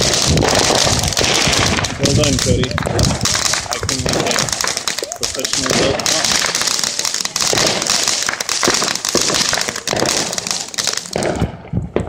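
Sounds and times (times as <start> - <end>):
firework fountain hissing and crackling: 0.0 - 12.0.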